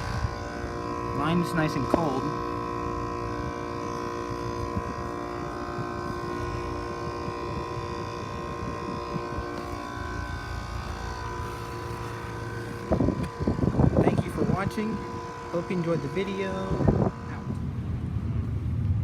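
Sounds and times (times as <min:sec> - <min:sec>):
heat pump humming: 0:00.0 - 0:19.0.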